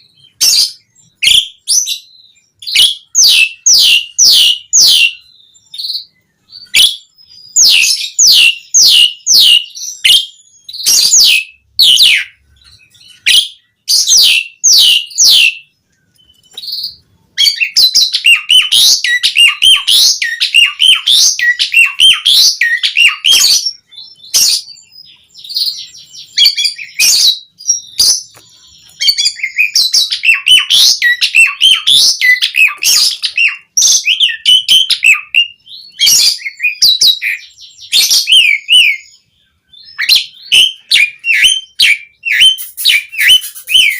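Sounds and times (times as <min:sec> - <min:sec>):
starling singing: 0:00.0 - 0:43.9.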